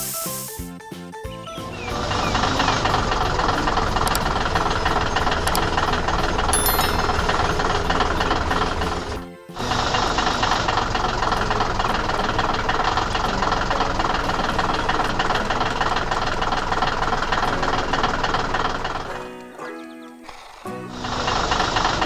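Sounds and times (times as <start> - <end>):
machine engine rattling: 1.5 - 19.2, 21.0 - 22.0.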